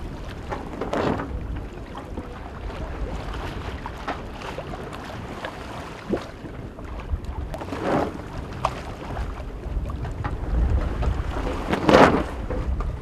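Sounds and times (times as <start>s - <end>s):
water slapping hull: 0.0s - 13.0s
water washing along hull: 0.0s - 13.0s
wind buffeting microphone: 0.0s - 13.0s.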